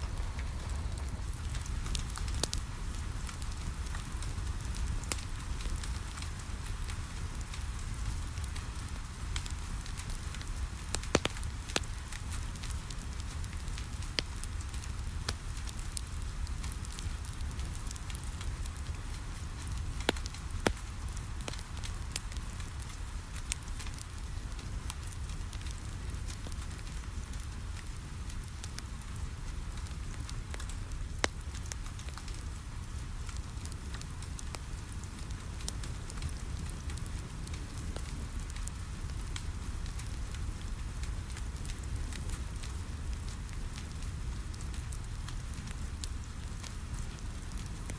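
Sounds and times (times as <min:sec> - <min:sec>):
rain pattering: 0:00.0 - 0:47.9
wood fire crackling: 0:00.0 - 0:47.9.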